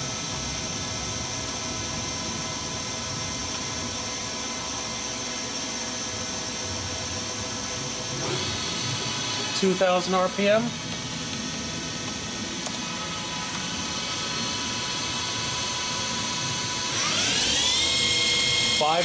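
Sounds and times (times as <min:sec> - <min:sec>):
machine spindle whine: 0:00.0 - 0:19.0.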